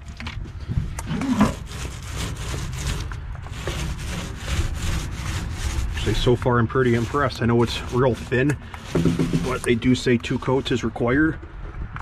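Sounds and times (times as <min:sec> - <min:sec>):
paint roller gritty rubbing: 0:01.2 - 0:11.4.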